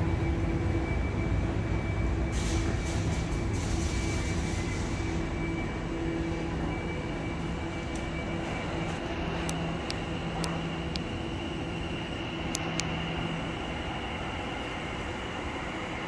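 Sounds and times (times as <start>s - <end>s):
station noise: 0.0s - 16.0s
train equipment humming: 0.0s - 16.0s.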